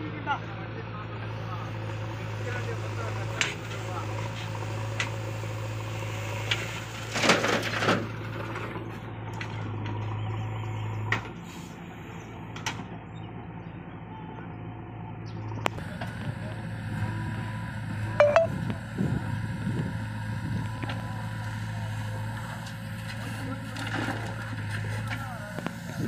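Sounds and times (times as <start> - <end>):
diesel engines humming: 0.0 - 26.0.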